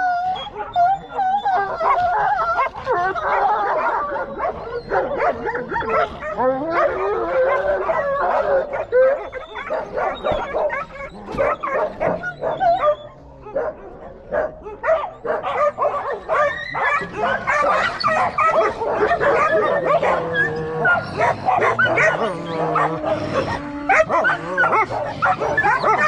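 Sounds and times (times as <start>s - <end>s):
dog yipping and whimpering: 0.0s - 26.0s.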